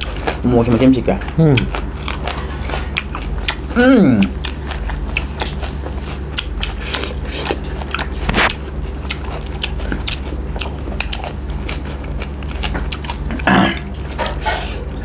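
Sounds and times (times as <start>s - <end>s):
chewing food: 0.0s - 15.0s
steady low hum: 0.0s - 15.0s.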